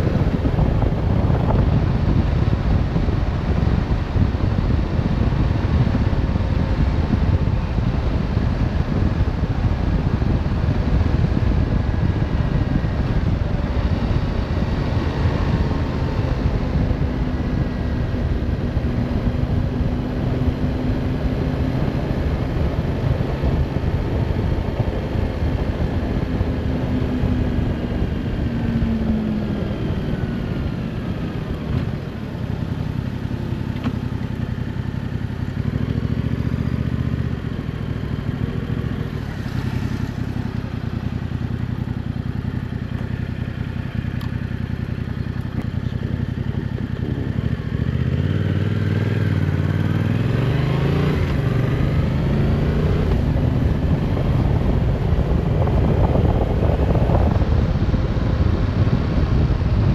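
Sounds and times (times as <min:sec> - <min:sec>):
motorcycle engine running: 0:00.0 - 0:59.9
wind noise rumble: 0:00.0 - 0:59.9.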